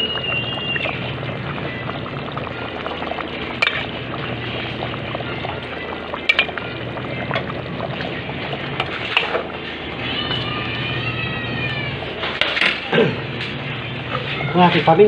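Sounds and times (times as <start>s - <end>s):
sauce bubbling in a pot: 0.0s - 15.0s.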